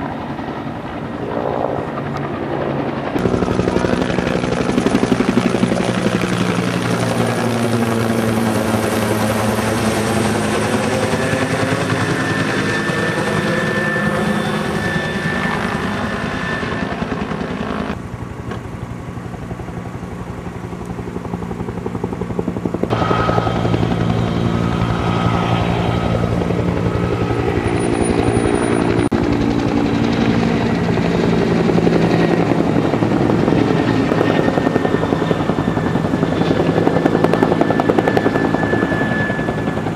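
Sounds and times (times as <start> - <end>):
helicopter flying past: 0.0 - 39.9.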